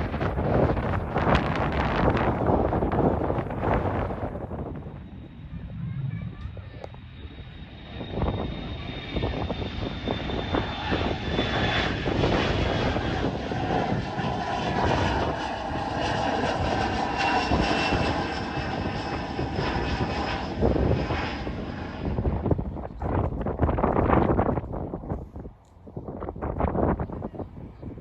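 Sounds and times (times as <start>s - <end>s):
aircraft engines running: 0.0s - 28.0s
wind buffeting microphone: 0.0s - 28.0s.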